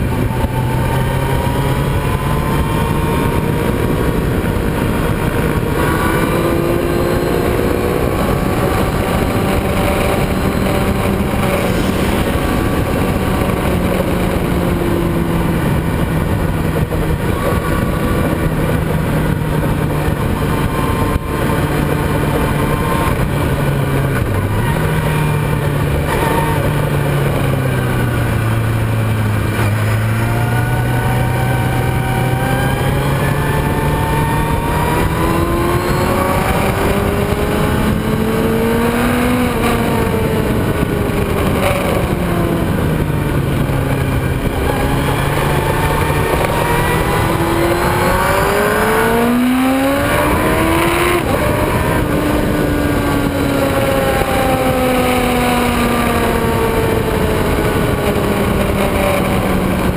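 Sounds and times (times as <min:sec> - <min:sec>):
racing motorcycle engine revving: 0:00.0 - 0:59.9
wind rush over microphone: 0:00.0 - 0:59.9.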